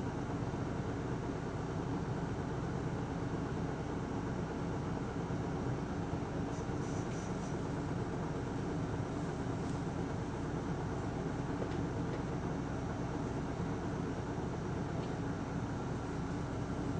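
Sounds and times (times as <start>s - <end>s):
bus engine and road rumble: 0.0s - 16.9s.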